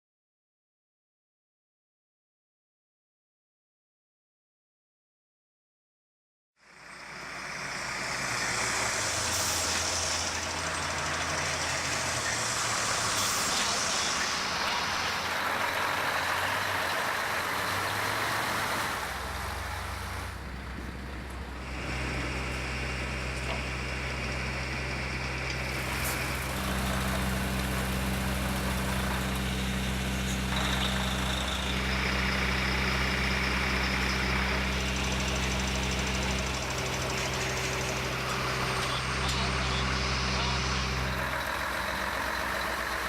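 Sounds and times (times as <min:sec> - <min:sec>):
heavy vehicle engine humming: 0:06.6 - 0:43.0.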